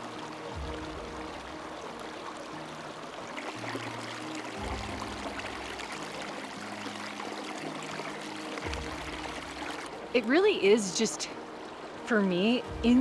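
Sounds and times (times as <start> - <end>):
soft background music: 0.0 - 13.0
stream trickling: 0.0 - 13.0.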